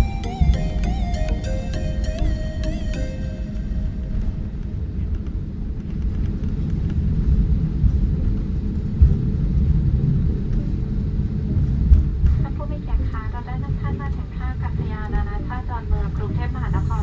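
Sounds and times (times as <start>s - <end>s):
aircraft cabin rumble: 0.0s - 17.0s.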